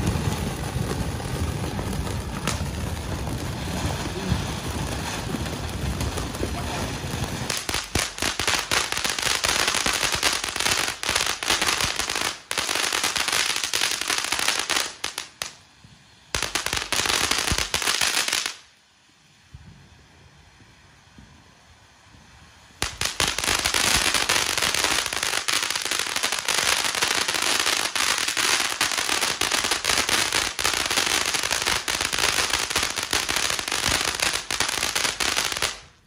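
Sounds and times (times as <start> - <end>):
firework spraying sparks with hiss: 0.0 - 36.0
loud dense firework crackling: 0.0 - 36.0.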